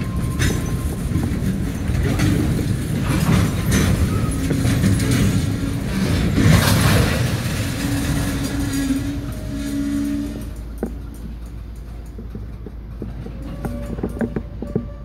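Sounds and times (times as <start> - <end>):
train clanks: 0.0 - 15.0
train wheels rumbling on rail: 0.0 - 15.0.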